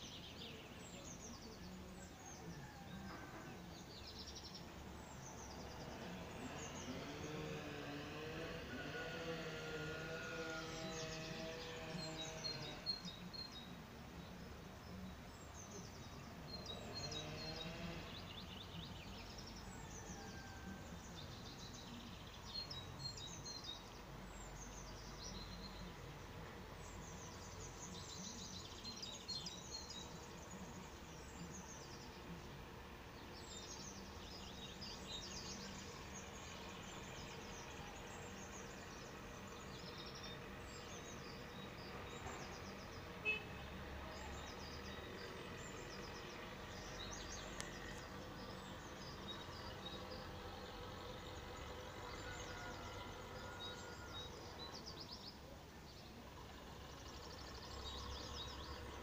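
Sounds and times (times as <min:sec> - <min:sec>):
low outdoor background noise: 0:00.0 - 0:59.0
songbirds chirping and singing: 0:00.0 - 0:59.0.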